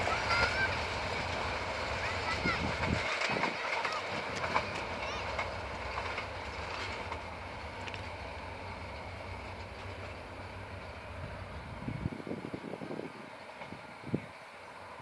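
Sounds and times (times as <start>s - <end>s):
train rail rumble: 0.0s - 15.0s.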